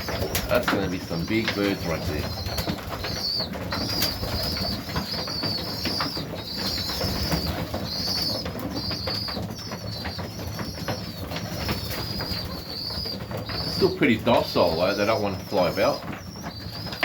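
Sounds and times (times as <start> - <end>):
low pigeon cooing: 0.0 - 17.0
young pigeons peeping: 0.0 - 17.0.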